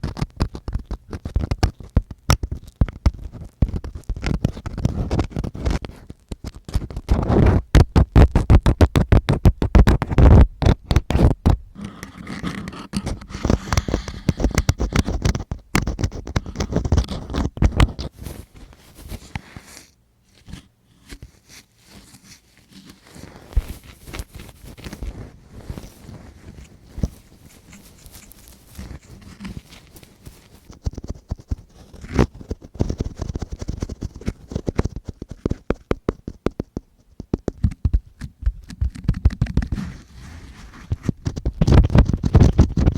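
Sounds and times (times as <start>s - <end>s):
tool scraping microphone: 3.2s - 36.7s, 38.8s - 42.9s.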